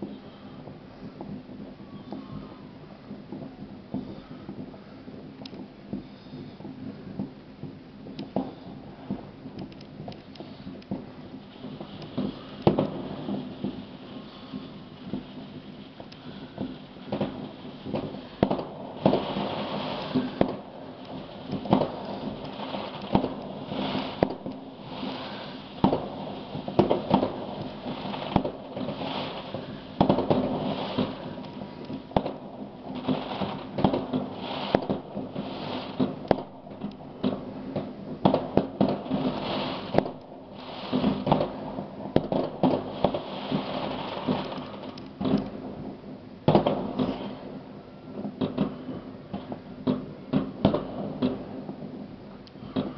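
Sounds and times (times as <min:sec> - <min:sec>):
fireworks bangs and crackles: 0:00.0 - 0:52.9.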